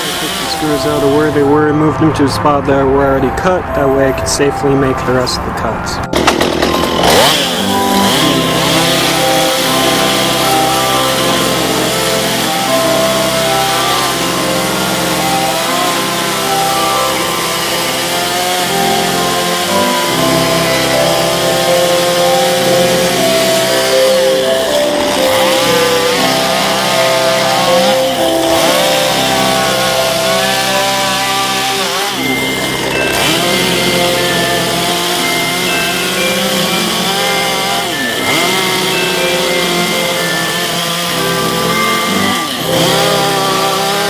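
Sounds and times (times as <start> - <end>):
chainsaw cutting wood: 0.0 - 1.6, 6.1 - 44.0
background music: 0.0 - 44.0.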